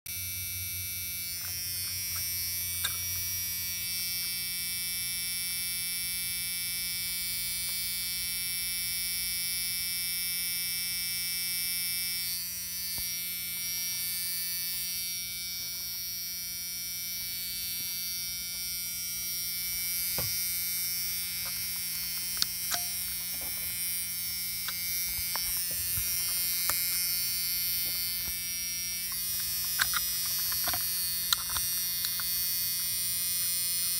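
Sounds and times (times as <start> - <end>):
electrical buzz and hum: 0.1 - 33.9.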